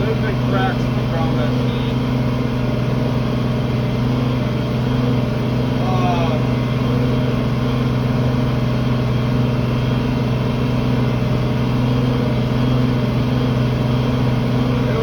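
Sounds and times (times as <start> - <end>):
tractor engine running under load: 0.0 - 15.0.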